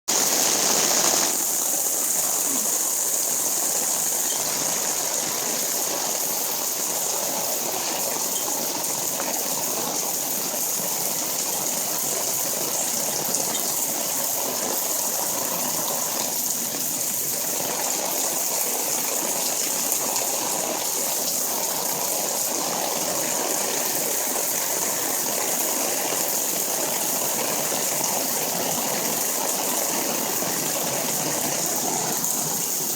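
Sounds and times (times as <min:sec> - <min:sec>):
rainwater gushing from gutters: 0:00.1 - 0:32.9.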